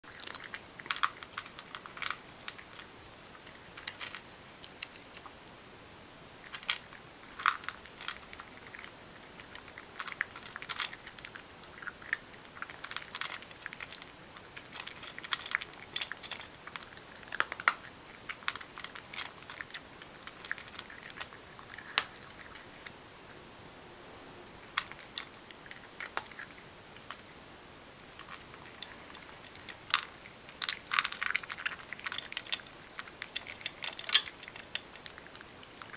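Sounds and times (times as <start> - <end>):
cat crunching dry kibble: 0.0 - 5.4, 6.4 - 23.0, 24.6 - 35.9.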